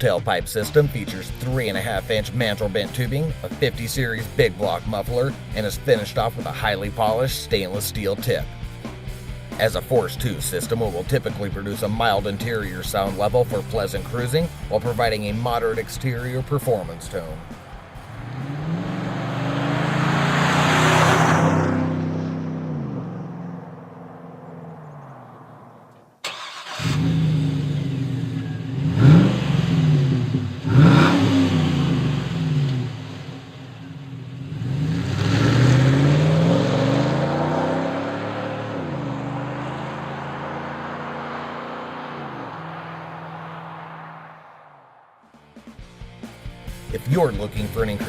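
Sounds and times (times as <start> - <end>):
v eight engine revving: 0.0 - 45.4.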